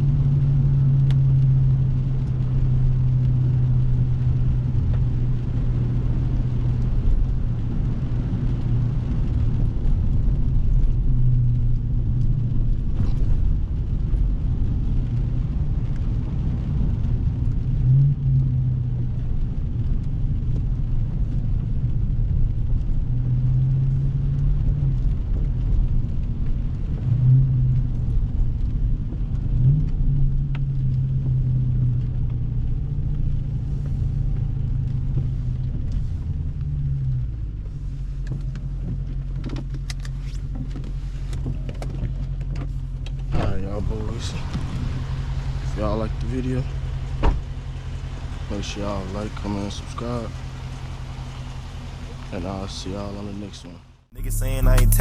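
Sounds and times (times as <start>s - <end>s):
car engine running deep drone: 0.0s - 55.0s.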